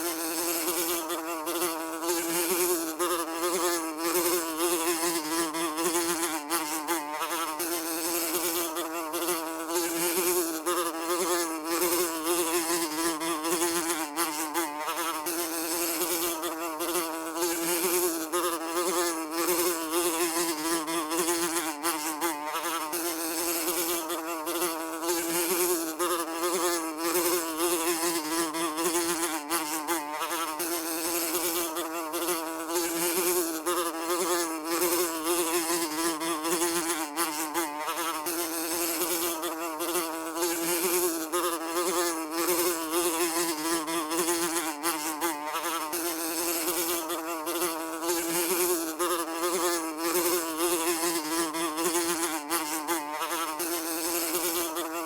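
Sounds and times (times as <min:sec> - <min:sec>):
fly buzzing: 0:00.0 - 0:55.0.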